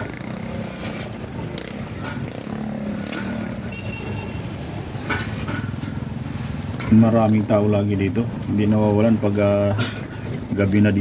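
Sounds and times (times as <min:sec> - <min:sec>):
city traffic engine hum: 0:00.0 - 0:11.0.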